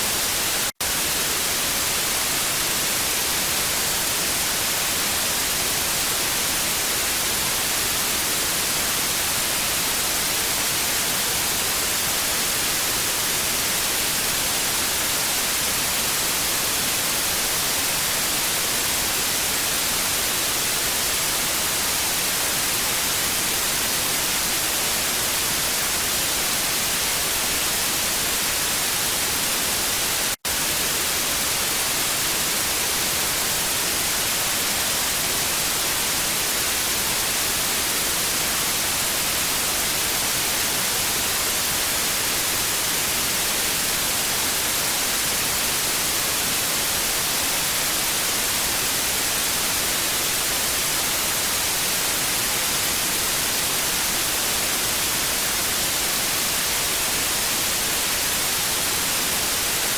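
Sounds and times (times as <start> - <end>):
tv static hiss: 0.0 - 59.9.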